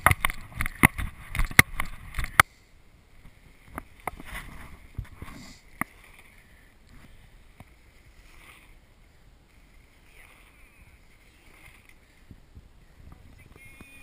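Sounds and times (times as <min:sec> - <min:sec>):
mountain bikes rolling on dirt: 0:00.0 - 0:02.4, 0:03.0 - 0:14.0.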